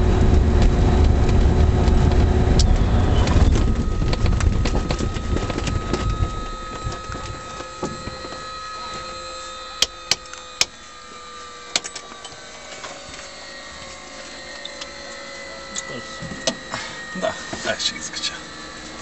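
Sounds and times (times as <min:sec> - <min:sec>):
faint whine falling in pitch: 0:00.0 - 0:19.0.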